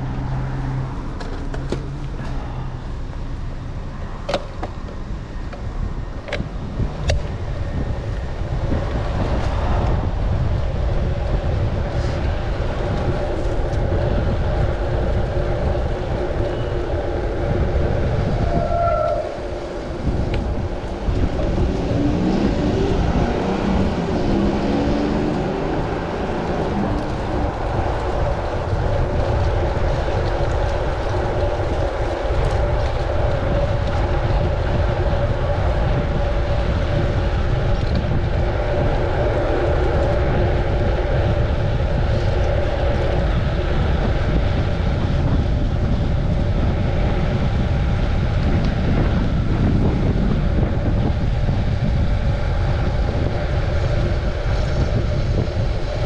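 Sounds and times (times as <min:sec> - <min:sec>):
city traffic: 0:00.0 - 0:56.0
road rumble: 0:00.0 - 0:56.0
wind on microphone: 0:00.0 - 0:56.0.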